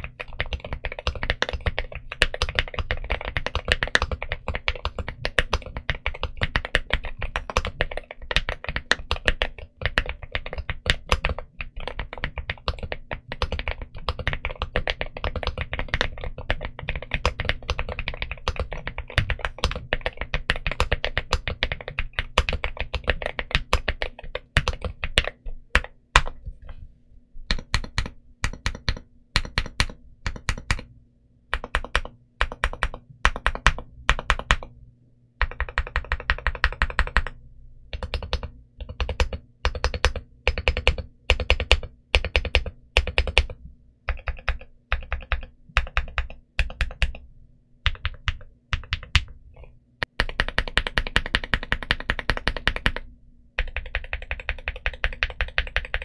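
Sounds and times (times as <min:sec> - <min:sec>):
mechanical keyboard typing: 0:00.0 - 0:26.4, 0:27.5 - 0:30.9, 0:31.5 - 0:34.7, 0:35.4 - 0:47.2, 0:47.8 - 0:49.4, 0:50.0 - 0:56.0.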